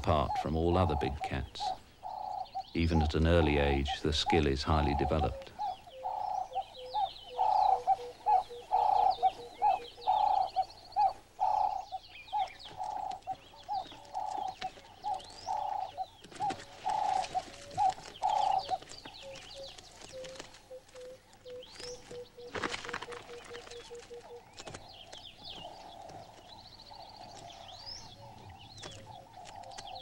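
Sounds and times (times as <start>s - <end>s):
dove cooing: 0.0s - 30.0s
small birds chirping faintly: 0.0s - 30.0s.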